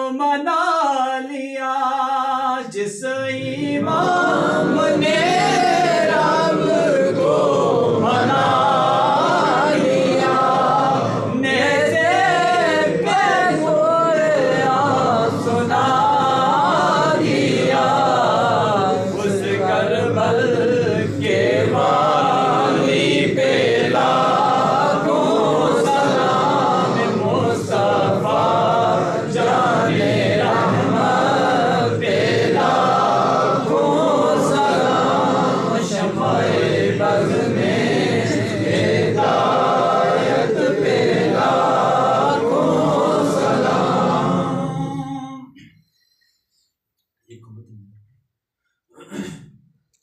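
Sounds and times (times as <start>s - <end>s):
men chanting together: 2.0s - 45.8s.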